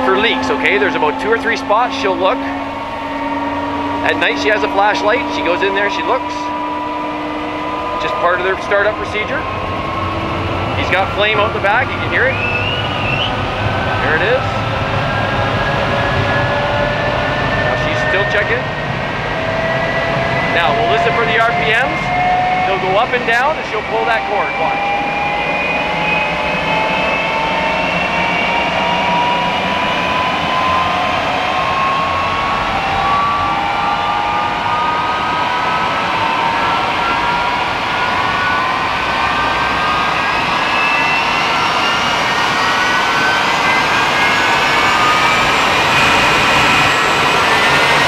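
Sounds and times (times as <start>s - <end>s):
jet engine whine: 0.0s - 48.0s.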